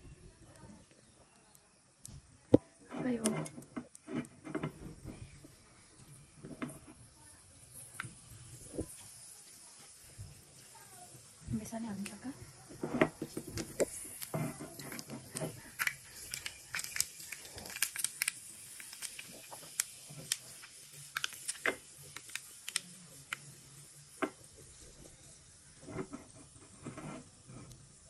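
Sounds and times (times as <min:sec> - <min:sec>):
crackles and pops of spices: 0:00.0 - 0:28.0
spices sizzling in hot oil: 0:02.8 - 0:28.0.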